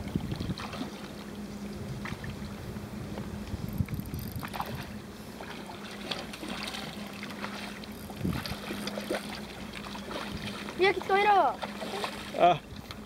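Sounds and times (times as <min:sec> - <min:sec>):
steady wind: 0:00.0 - 0:13.0.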